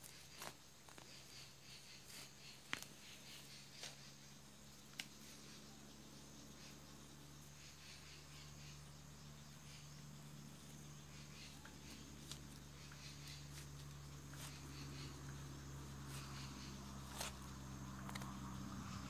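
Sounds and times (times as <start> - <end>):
high insect drone: 0.0 - 19.0
rustling of soil and leaves: 0.0 - 19.0.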